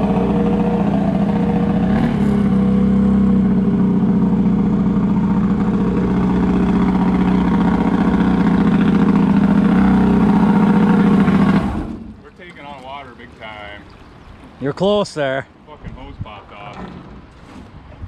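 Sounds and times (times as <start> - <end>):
boat engine running: 0.0 - 14.8.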